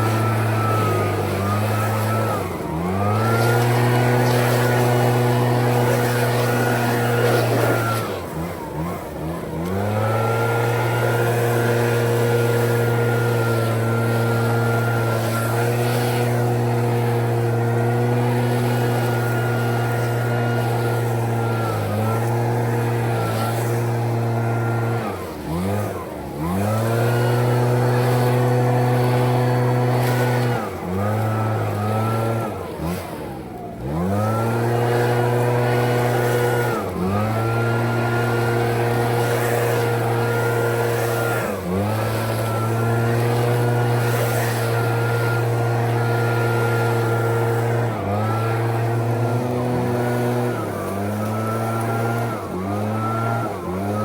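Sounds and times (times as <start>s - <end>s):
leaf blower engine revving: 0.0s - 54.0s.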